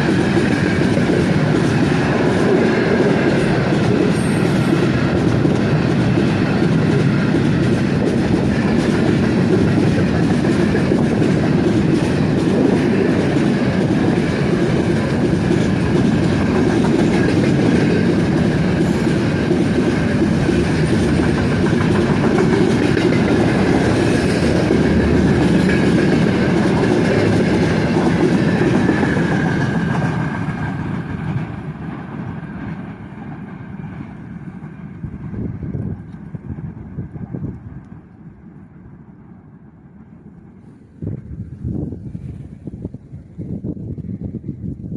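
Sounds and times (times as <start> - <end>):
wheels clacking over rail joints: 0.0 - 36.6
train wagons rumbling past: 0.0 - 44.9.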